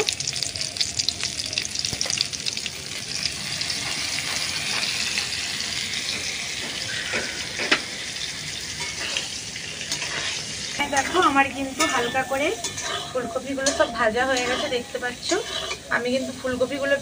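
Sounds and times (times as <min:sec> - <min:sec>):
cauliflower sizzling in oil: 0:00.0 - 0:17.0.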